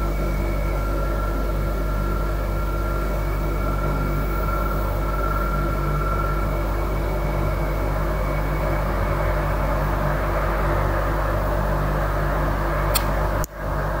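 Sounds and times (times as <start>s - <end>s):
low drone-like hum: 0.0s - 14.0s.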